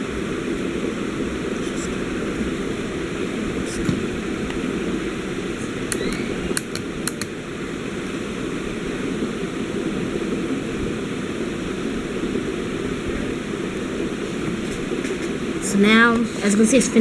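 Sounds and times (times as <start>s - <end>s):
fan or air conditioning hum: 0.0s - 17.0s.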